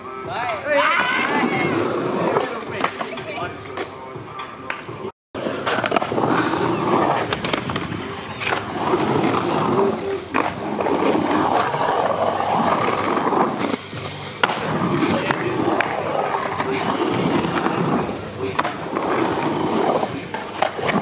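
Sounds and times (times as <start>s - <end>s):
skateboard wheels rolling on concrete: 0.0s - 21.0s
skateboard clacks: 2.2s - 21.0s.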